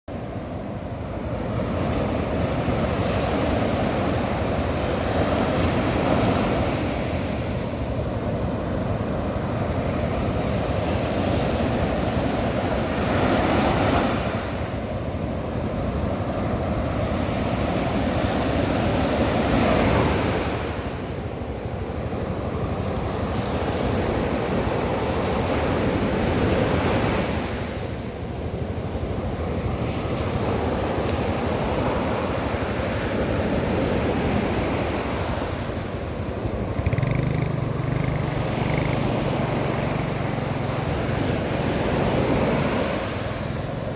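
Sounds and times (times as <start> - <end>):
sea waves breaking on beach: 0.1 - 43.9
wind on microphone: 0.2 - 43.9.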